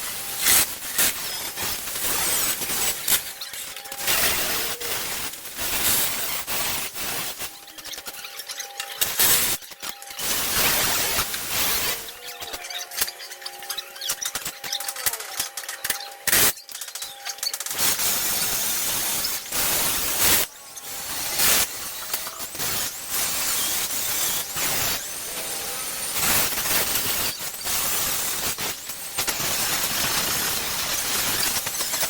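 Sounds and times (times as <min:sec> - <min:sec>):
welding crackling hiss: 0:00.0 - 0:15.4, 0:16.2 - 0:32.0.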